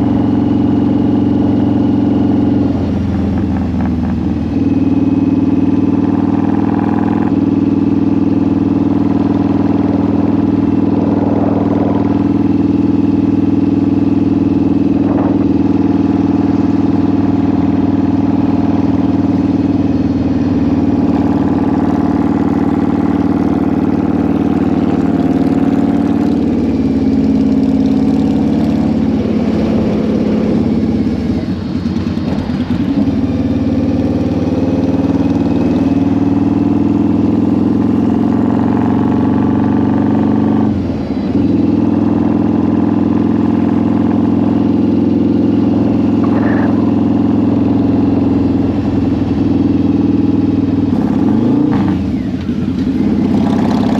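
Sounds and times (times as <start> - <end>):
motorcycle engine at road speed: 0.0 - 53.9.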